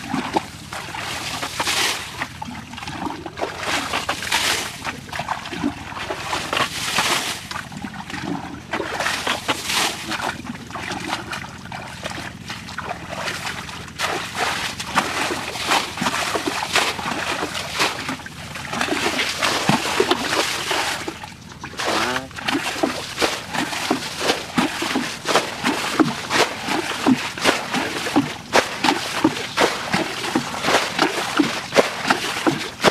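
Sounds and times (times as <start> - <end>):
moving water: 0.0 - 32.9
water splashing and sloshing: 0.0 - 32.9.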